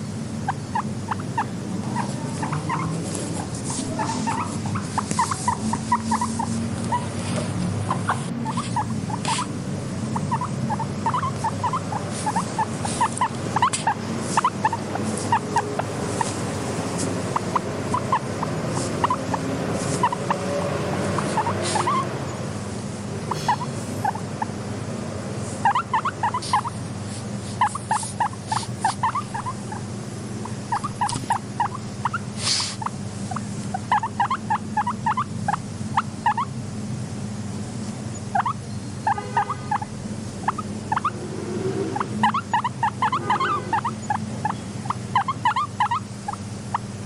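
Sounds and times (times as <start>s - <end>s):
guinea pigs squeaking: 0.0s - 22.5s, 23.2s - 24.6s, 25.4s - 36.6s, 38.1s - 47.0s
low background hum: 0.0s - 47.0s.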